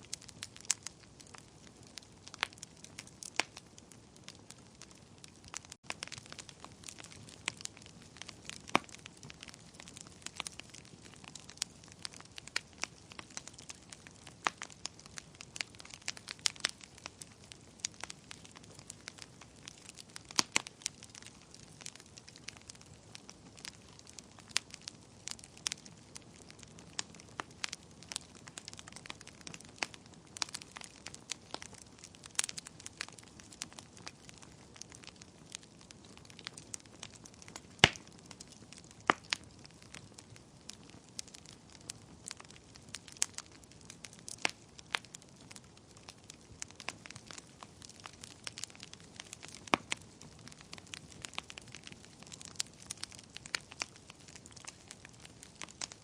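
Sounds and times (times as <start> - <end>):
soft steady hiss: 0.0 - 56.0
wood fire crackling and popping: 0.0 - 56.0.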